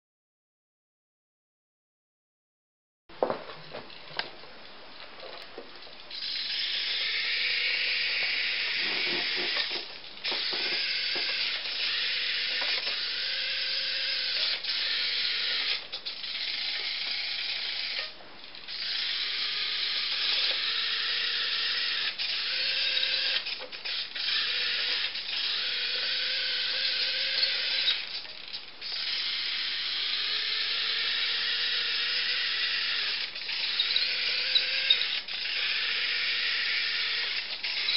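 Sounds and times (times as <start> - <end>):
toy tractor motor whirring: 6.1 - 37.9.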